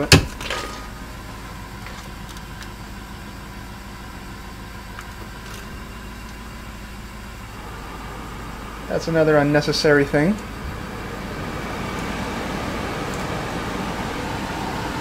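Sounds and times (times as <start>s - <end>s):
car engine idling hum: 0.0s - 15.0s.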